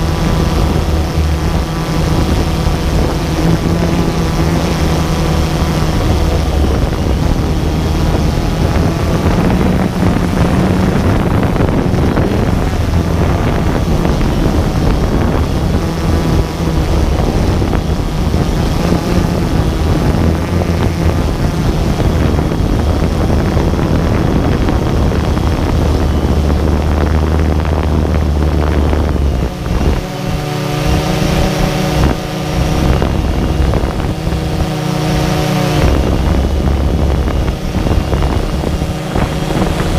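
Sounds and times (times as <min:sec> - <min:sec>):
drone motors buzzing: 0:00.0 - 0:39.9
whine of steady tones: 0:00.0 - 0:39.9
wind on microphone: 0:00.0 - 0:39.9.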